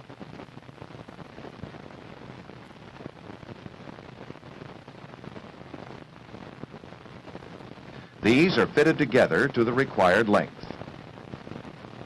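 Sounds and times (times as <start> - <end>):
film soundtrack hiss and crackle: 0.0 - 12.0.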